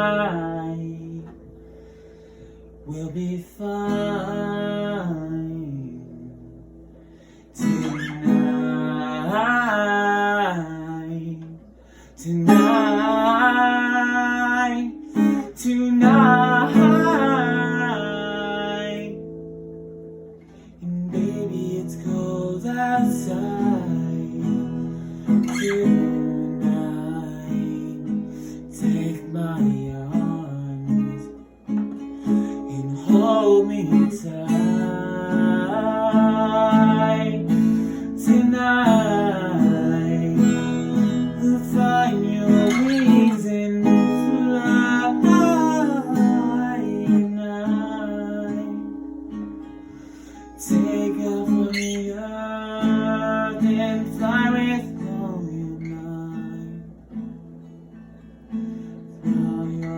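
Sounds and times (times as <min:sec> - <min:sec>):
man singing wordless melody: 0:00.0 - 0:01.8, 0:02.7 - 0:06.8, 0:07.4 - 0:19.3, 0:20.8 - 0:31.4, 0:32.3 - 0:49.2, 0:50.5 - 0:56.9, 0:59.2 - 0:59.9
acoustic guitar: 0:00.0 - 0:59.9.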